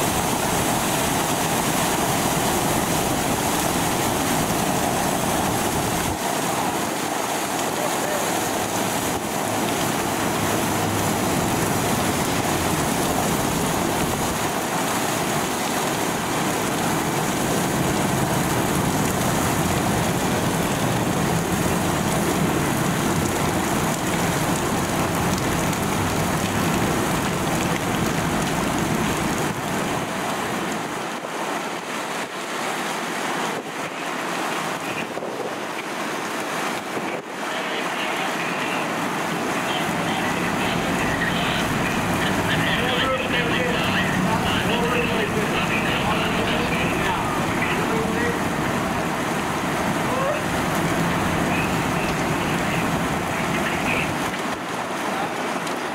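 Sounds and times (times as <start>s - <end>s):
water gushing from fire hydrant: 0.0s - 55.9s.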